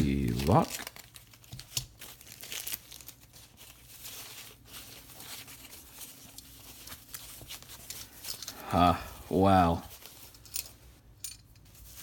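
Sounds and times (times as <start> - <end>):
packing paper rustling and crinkling: 0.0 - 12.0.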